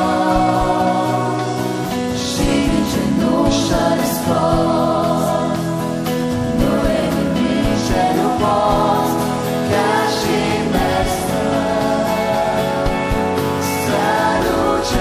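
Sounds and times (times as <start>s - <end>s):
singing voices: 0.0s - 15.0s
worship band playing: 0.0s - 15.0s.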